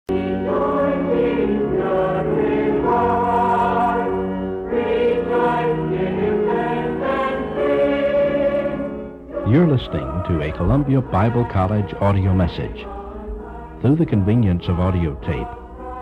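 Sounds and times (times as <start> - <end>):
choir singing held chords: 0.1 - 16.0.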